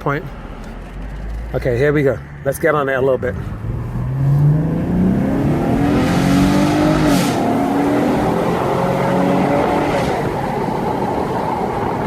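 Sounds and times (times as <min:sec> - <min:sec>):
car engine accelerating hard: 0:00.4 - 0:12.0.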